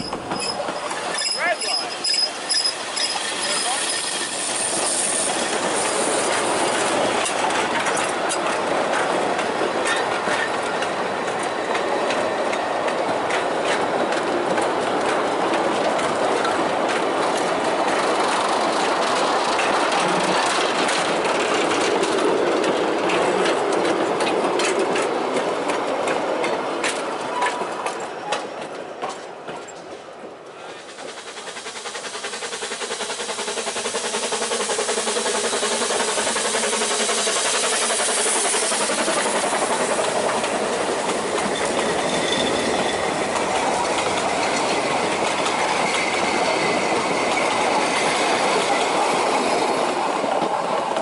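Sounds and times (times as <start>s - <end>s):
wheels clattering over rail joints: 0.0s - 31.1s, 33.7s - 51.0s
iron wheels rumbling on rails: 0.0s - 51.0s.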